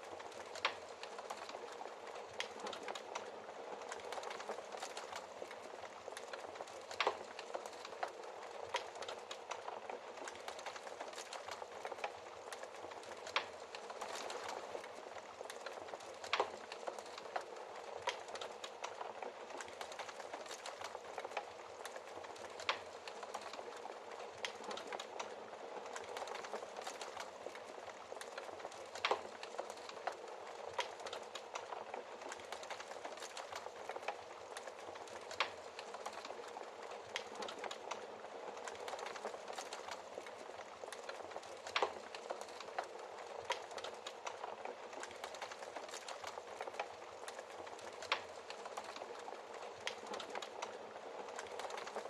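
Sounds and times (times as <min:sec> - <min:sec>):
fireplace fire crackling: 0:00.0 - 0:52.0
soft fire hiss: 0:00.0 - 0:52.0.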